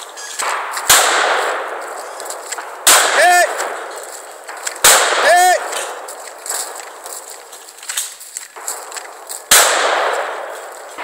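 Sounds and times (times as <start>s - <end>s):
gunshots with echo: 0.0s - 7.4s, 8.6s - 11.0s.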